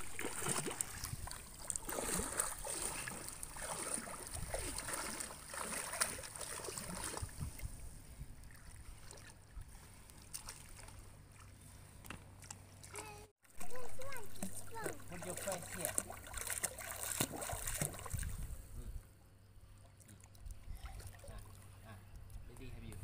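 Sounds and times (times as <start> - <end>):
pool water sloshing and splashing: 0.0 - 18.6, 19.6 - 21.9.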